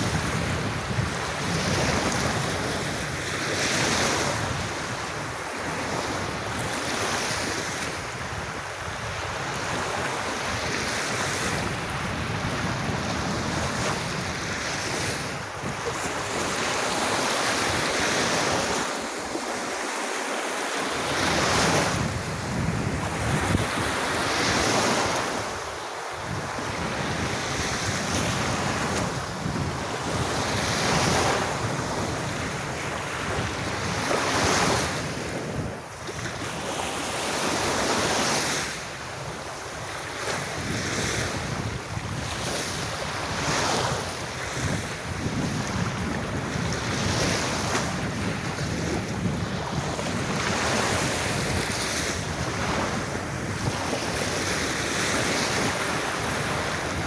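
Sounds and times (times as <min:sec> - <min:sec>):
gentle waves breaking on beach: 0:00.0 - 0:57.0.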